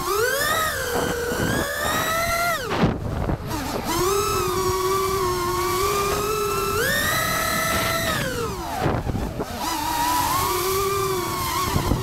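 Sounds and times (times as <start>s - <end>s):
quadcopter motors whining: 0.0s - 12.0s
wind rushing over microphone: 0.0s - 12.0s.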